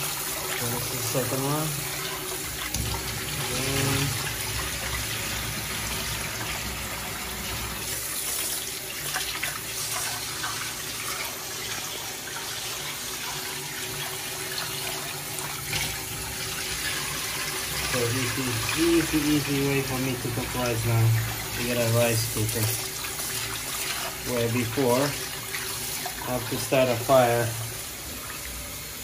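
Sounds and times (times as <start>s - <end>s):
tap water running into metal pot: 0.0s - 29.0s
water spilling into steel sink: 0.0s - 29.0s
water swishing and splashing: 0.0s - 29.0s.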